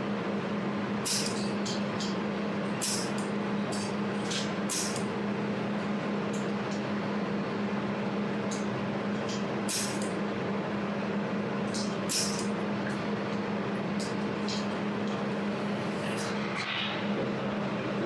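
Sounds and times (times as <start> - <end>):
welding machine humming: 0.0 - 16.5.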